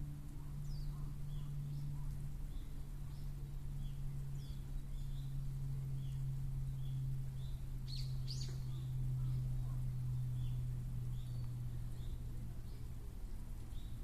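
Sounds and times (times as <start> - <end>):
small birds chirping: 0.0 - 14.0
steady low hum: 0.0 - 14.0
sweeping bird calls: 0.3 - 14.0.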